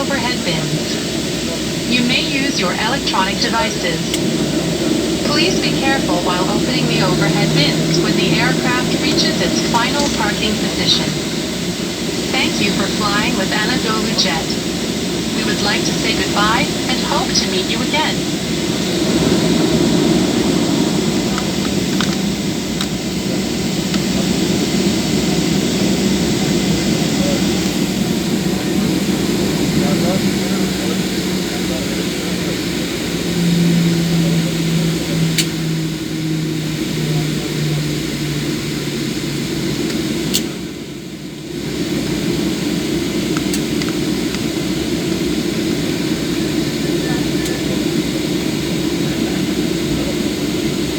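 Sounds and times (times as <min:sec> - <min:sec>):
jet cabin engine noise: 0:00.0 - 0:50.9.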